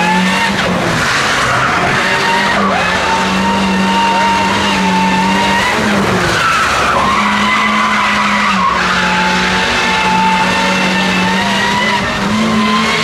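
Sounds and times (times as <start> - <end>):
tyres squealing: 0.0 - 13.0
van engine at high revs: 0.0 - 13.0.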